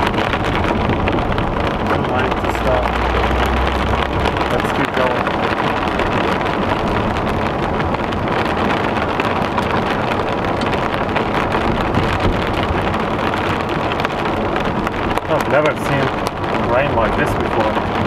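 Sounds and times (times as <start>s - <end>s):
heavy rain on a car: 0.0s - 18.0s
tyres on flooded road: 0.0s - 18.0s.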